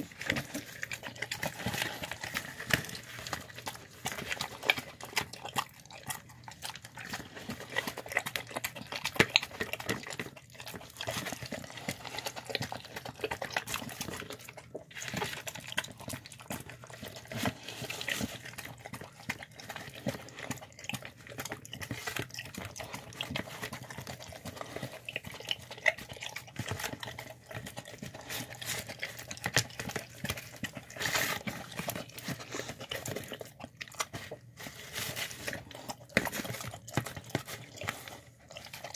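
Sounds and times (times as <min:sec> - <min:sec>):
dogs slurping and chewing: 0:00.0 - 0:38.9.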